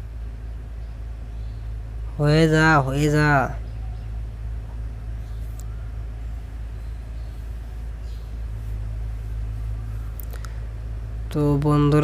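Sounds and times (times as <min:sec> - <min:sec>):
low background hum with hiss: 0:00.0 - 0:12.0.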